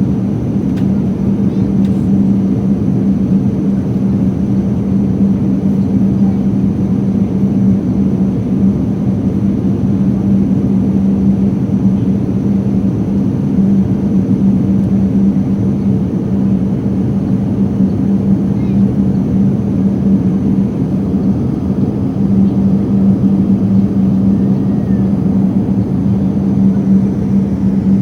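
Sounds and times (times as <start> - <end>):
airliner cabin engine roar: 0.0 - 28.0
constant low hum: 0.0 - 28.0.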